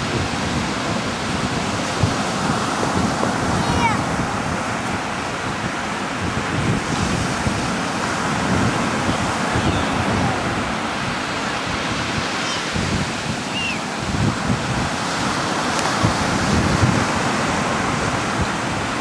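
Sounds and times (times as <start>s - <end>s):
ocean surf on beach: 0.0s - 19.0s
wind buffeting microphone: 0.0s - 19.0s.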